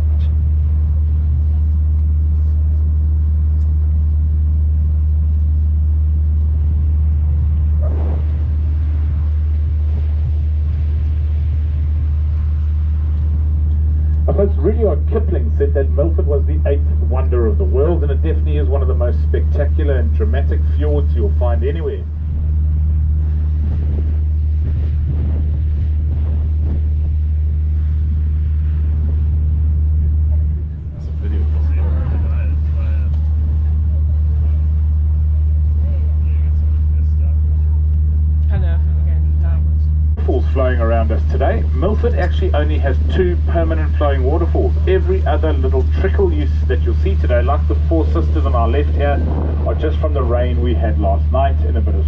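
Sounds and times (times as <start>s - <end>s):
boat engines droning: 0.0s - 52.0s
wind on microphone: 0.0s - 52.0s.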